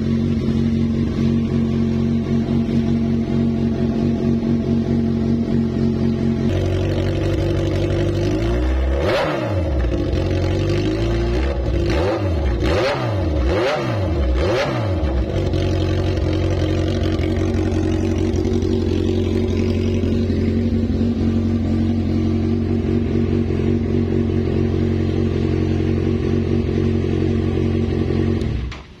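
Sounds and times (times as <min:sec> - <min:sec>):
motorcycle engine idling: 0:00.0 - 0:09.0, 0:09.6 - 0:12.6, 0:15.0 - 0:29.0
motorcycle engine revving: 0:00.0 - 0:29.0.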